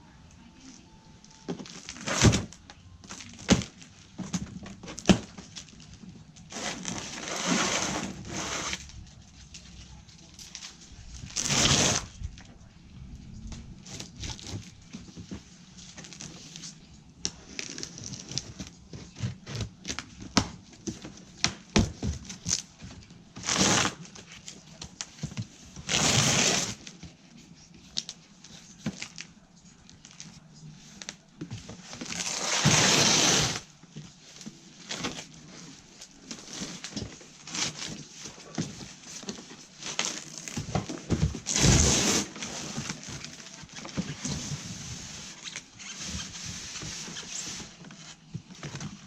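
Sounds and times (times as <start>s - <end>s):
cardboard and plastic rustling: 0.6s - 12.6s, 13.4s - 49.0s.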